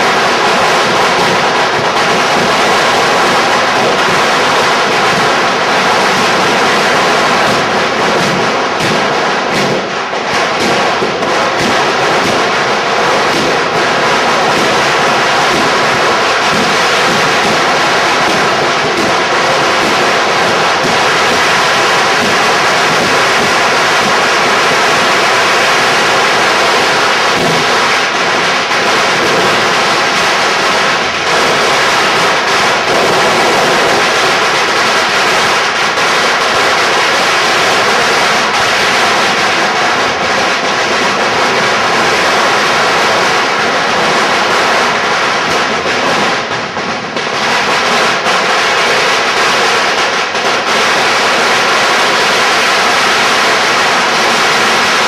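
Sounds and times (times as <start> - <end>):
firecrackers and fireworks barrage: 0.0 - 55.0.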